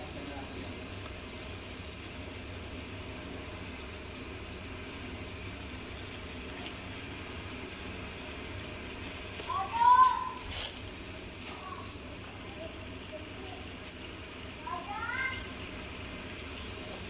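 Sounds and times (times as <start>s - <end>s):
gas stove hiss: 0.0s - 17.0s.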